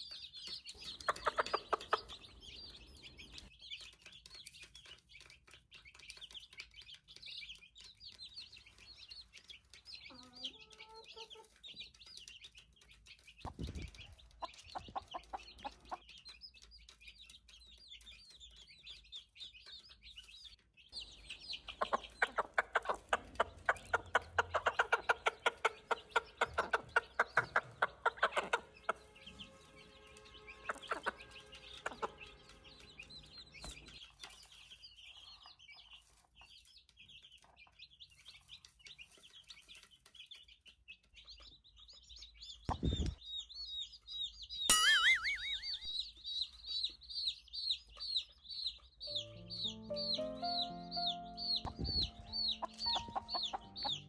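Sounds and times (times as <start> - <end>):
chicken clucking: 0.0 - 44.0, 44.7 - 54.0
chicks peeping: 0.0 - 54.0.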